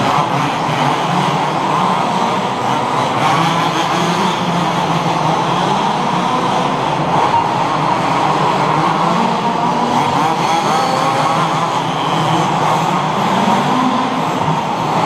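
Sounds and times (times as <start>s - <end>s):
model buggy engines buzzing: 0.0s - 15.0s.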